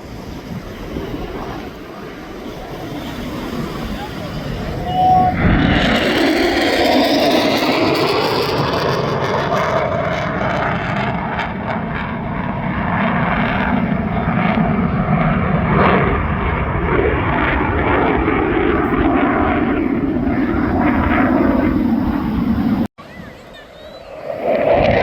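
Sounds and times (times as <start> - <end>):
jet engine rumble: 0.0 - 25.0.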